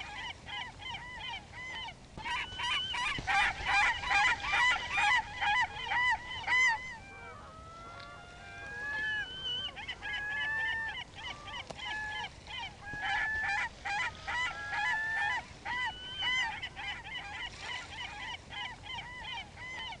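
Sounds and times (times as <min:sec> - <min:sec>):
seagulls squawking: 0:00.0 - 0:20.0.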